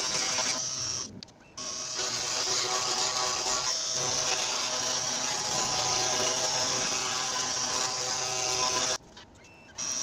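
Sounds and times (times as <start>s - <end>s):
router spindle whining: 0.0s - 9.0s.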